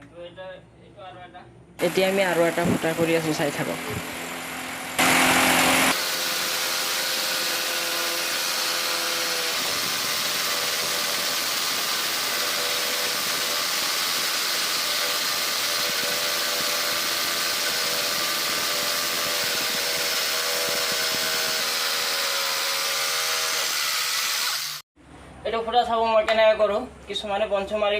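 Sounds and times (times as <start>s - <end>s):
electric drill boring into wall: 1.8s - 24.8s.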